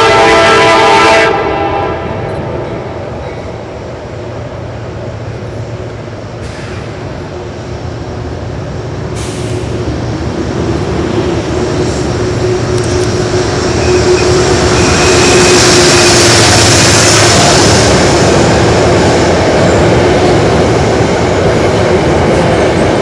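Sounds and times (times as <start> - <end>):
train rumble and hiss: 0.0 - 23.0.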